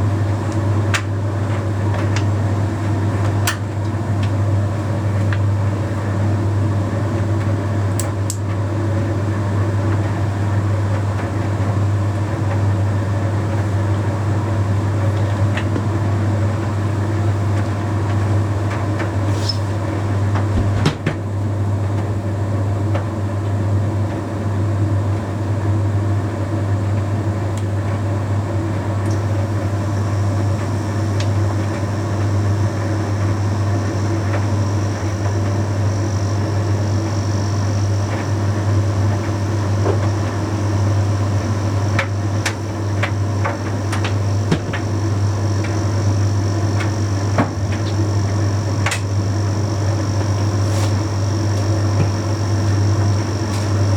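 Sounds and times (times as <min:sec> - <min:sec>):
tumble dryer humming: 0:00.0 - 0:53.9.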